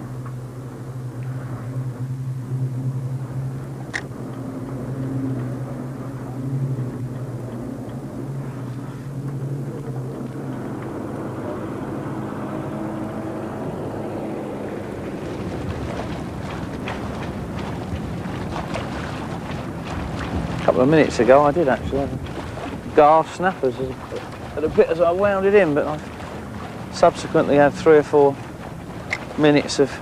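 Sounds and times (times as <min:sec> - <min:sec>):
propeller aircraft droning: 0:00.0 - 0:30.0.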